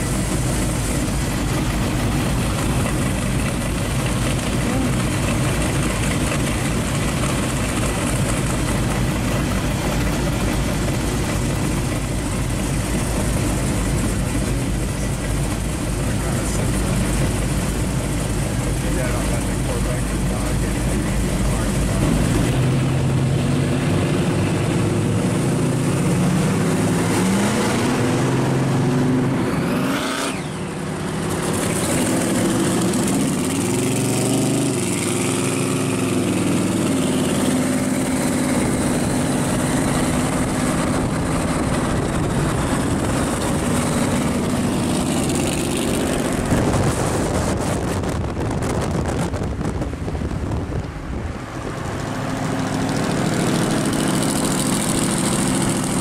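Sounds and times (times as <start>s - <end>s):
car engines revving: 0.0s - 56.0s
road and wind rush: 0.0s - 56.0s.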